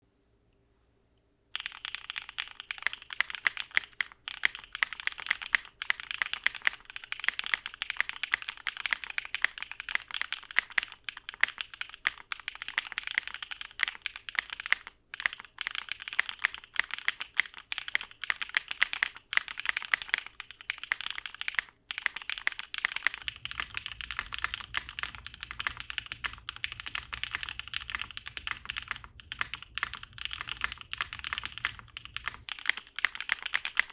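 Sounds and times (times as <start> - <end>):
typing on mechanical keyboard: 1.6 - 33.9.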